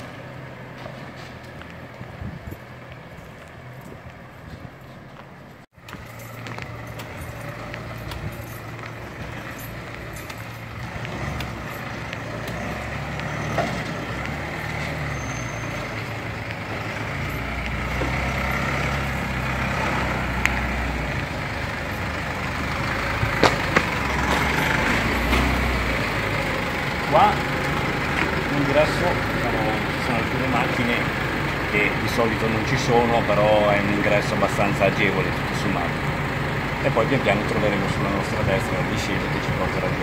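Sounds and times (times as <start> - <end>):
pickup truck engine running: 0.0 - 40.0.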